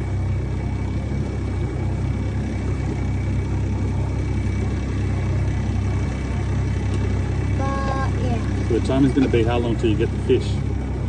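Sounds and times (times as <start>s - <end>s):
outboard motor running: 0.0s - 11.0s
water rushing: 0.0s - 11.0s
wind: 0.0s - 11.0s.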